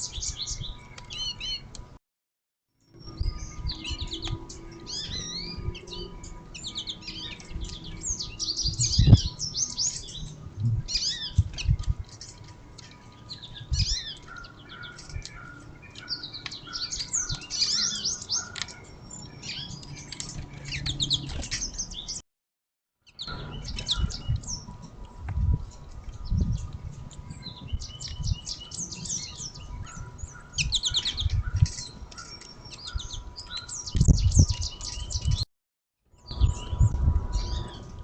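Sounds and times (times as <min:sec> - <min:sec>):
songbirds chirping and twittering: 0:00.0 - 0:02.0, 0:02.8 - 0:22.2, 0:23.0 - 0:35.5, 0:36.1 - 0:38.0.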